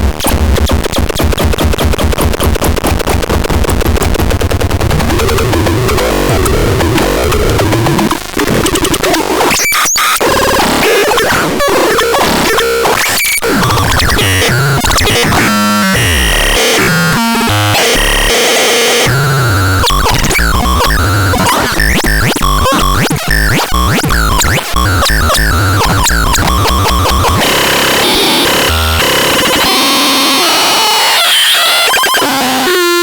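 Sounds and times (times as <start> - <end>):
harsh electronic noise and glitchy tones: 0.0 - 33.0.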